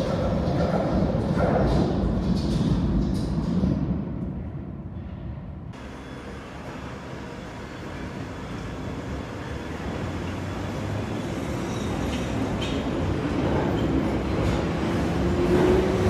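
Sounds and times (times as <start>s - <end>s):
underground train rumble: 0.0s - 16.0s.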